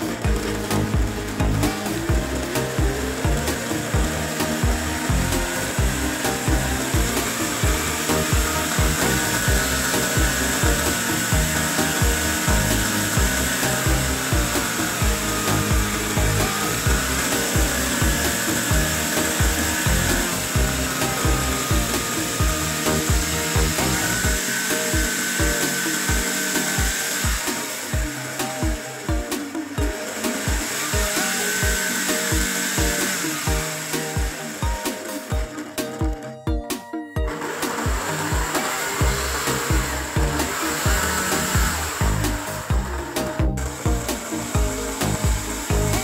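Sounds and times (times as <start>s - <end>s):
small electric motor whining: 0.0s - 36.6s, 37.2s - 46.0s
background music with steady beat: 0.0s - 46.0s.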